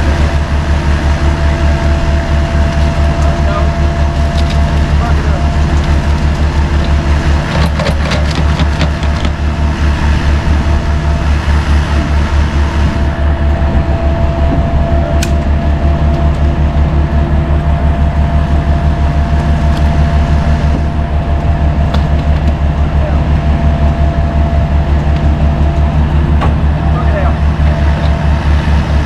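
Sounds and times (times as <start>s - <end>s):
constant whine: 0.0s - 29.0s
heavy diesel engine running: 0.0s - 29.0s.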